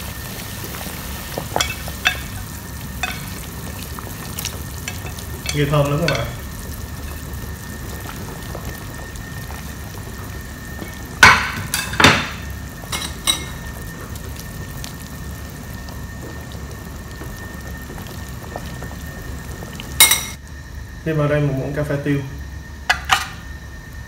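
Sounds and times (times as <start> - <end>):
soup simmering with bubbling hiss: 0.0 - 24.0.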